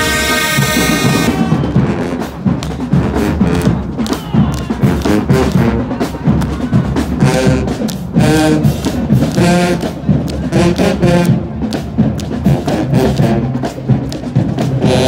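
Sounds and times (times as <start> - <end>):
brass horn chords: 0.0 - 4.0, 4.7 - 11.6, 12.4 - 13.8, 14.8 - 15.0
marching drums beating: 0.0 - 15.0.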